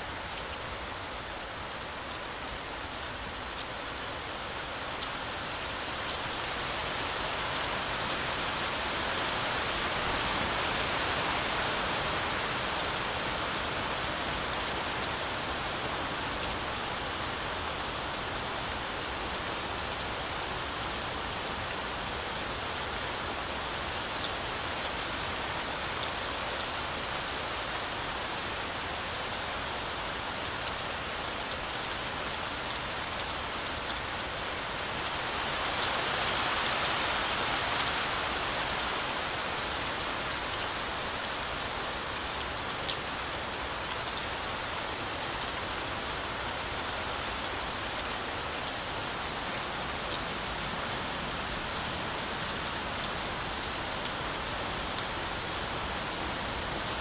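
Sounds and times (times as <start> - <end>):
heavy rain through forest canopy: 0.0 - 57.0.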